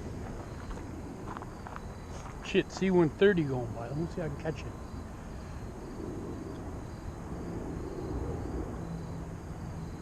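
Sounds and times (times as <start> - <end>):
steady hum: 0.0 - 10.0
turboprop aircraft droning rumble: 0.0 - 10.0.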